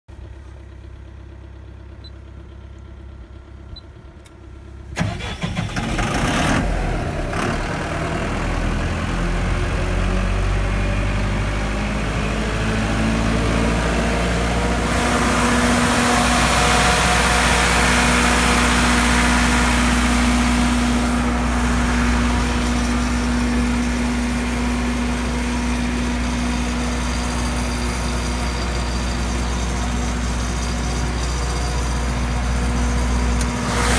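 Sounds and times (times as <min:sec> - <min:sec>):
generator diesel engine: 0:00.1 - 0:33.9.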